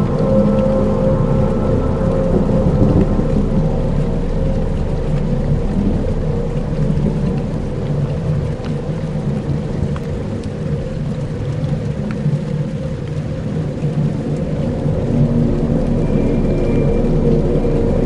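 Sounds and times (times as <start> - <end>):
faint scattered crackles: 0.0 - 18.0
low rumbling drone: 0.0 - 18.0.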